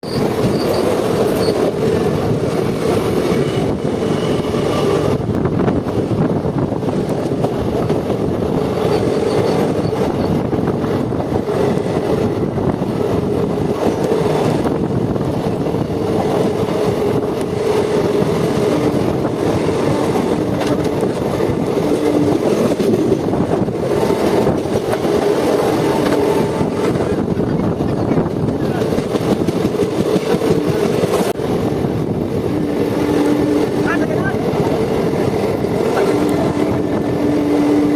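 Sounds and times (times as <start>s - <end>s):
train rumbling on rails: 0.0s - 37.9s.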